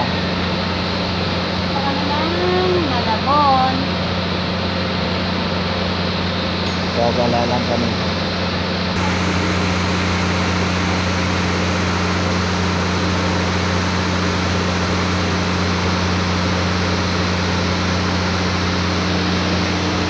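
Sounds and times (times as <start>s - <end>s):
air conditioning hiss: 0.0s - 20.0s
train car low hum: 0.0s - 20.0s.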